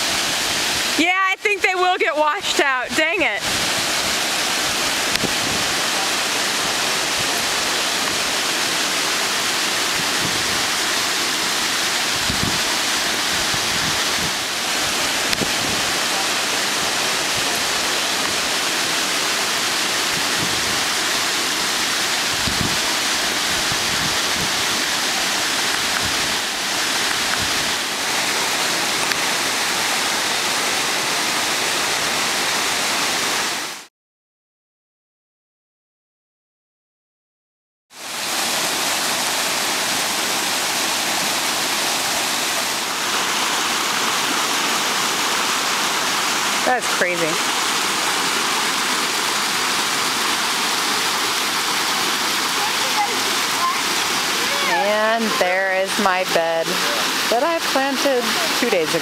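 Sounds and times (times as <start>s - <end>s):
floodwater rushing: 0.0s - 33.9s, 38.0s - 59.0s.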